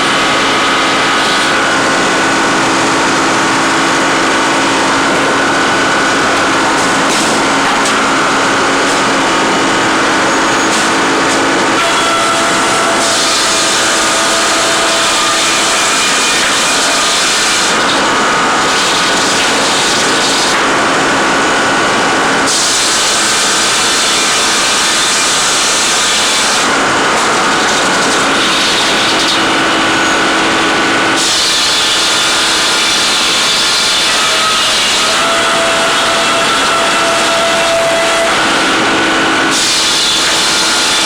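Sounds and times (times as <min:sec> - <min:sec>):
tree-cutting machine engine and saw: 0:00.0 - 0:41.0.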